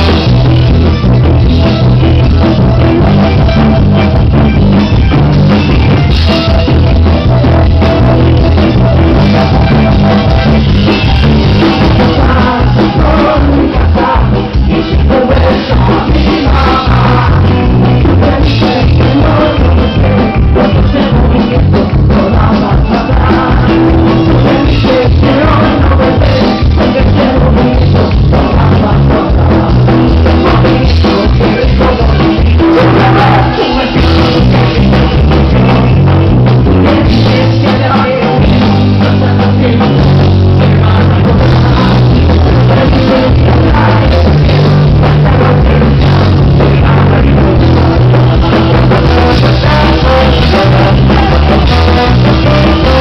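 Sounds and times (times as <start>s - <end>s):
regular drum beat: 0.0s - 53.0s
ska band playing live: 0.0s - 53.0s.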